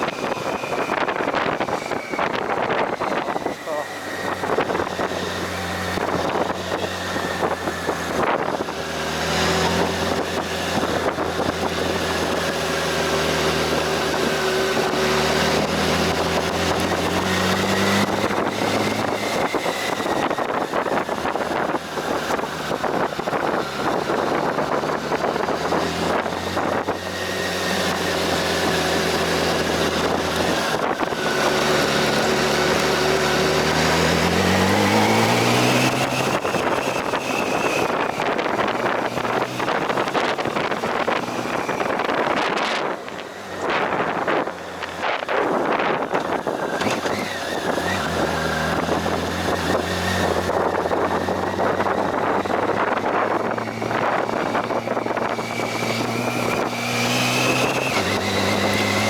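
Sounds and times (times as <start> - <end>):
vehicle engine running: 0.0 - 59.0
wind rushing over microphone: 0.0 - 59.0.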